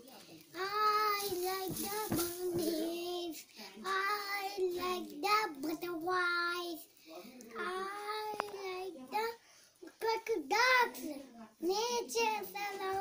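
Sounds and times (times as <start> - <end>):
child singing: 0.6 - 6.9, 7.6 - 9.4, 10.0 - 13.0.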